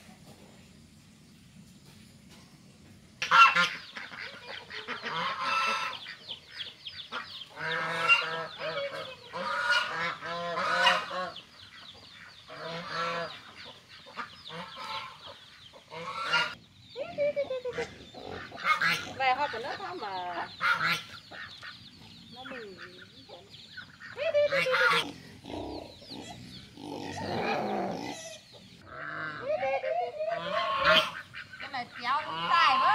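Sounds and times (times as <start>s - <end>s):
domestic waterfowl calling: 3.2s - 32.9s.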